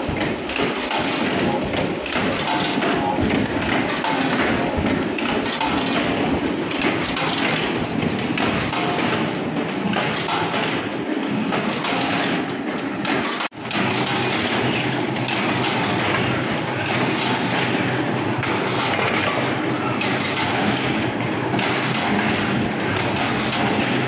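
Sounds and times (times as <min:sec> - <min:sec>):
press machines clattering thumps: 0:00.0 - 0:24.0.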